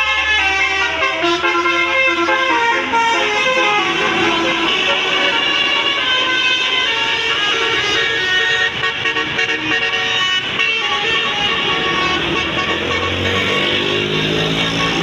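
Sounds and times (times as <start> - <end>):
multi-tone air horn tune: 0.0 - 15.0.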